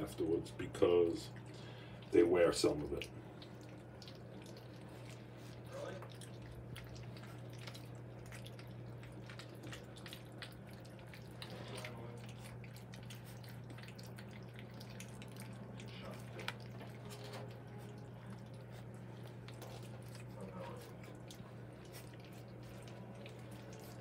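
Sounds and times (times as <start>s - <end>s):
puppies lapping food: 0.0s - 24.0s.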